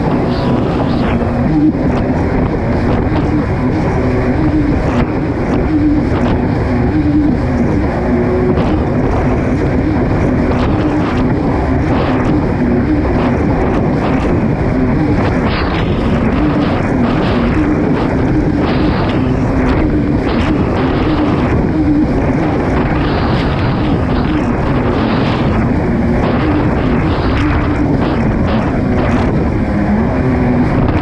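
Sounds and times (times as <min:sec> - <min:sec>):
jet ski engine running hard: 0:00.0 - 0:31.0
rush of wind and water: 0:00.0 - 0:31.0.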